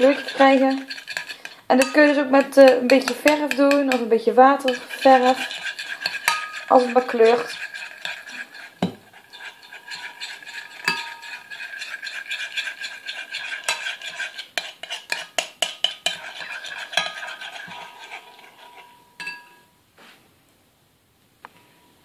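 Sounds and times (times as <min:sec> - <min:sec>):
metal spoon scraping glass jug: 0:00.0 - 0:04.0, 0:04.6 - 0:19.7.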